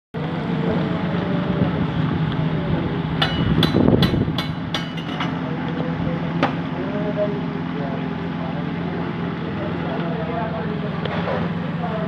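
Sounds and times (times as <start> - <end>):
steady low hum: 0.2 - 12.0.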